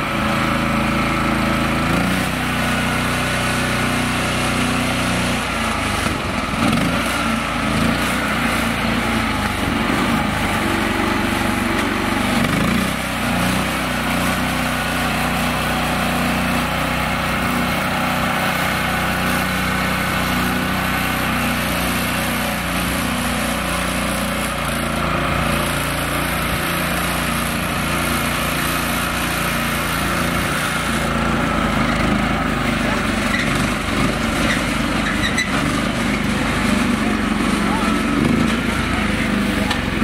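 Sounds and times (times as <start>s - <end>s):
small tractor engine under load: 0.0s - 40.0s.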